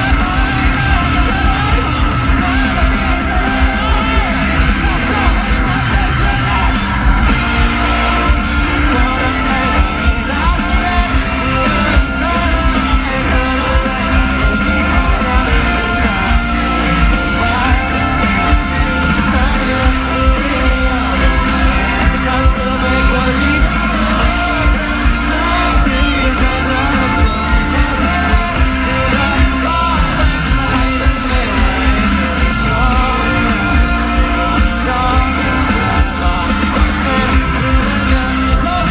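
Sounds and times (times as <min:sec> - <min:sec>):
live rock band playing: 0:00.0 - 0:38.9
singer's vocals: 0:00.0 - 0:38.9.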